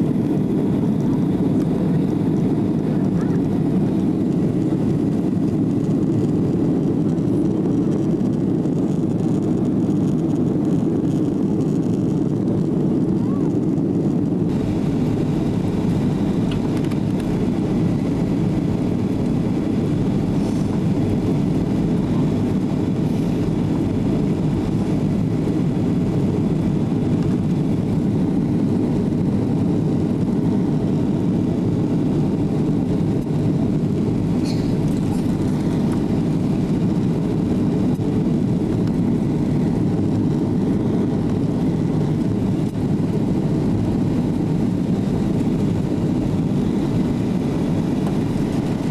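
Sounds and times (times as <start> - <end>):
jet engines roaring in cabin: 0.0 - 48.9.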